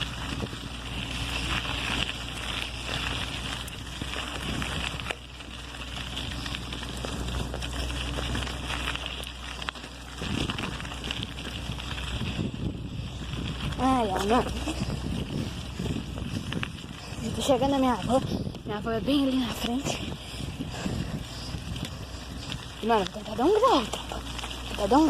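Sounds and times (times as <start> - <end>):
bicycle clicks and rattles: 0.0 - 25.0
bicycle road noise: 0.0 - 25.0
wind buffeting microphone: 0.0 - 25.0.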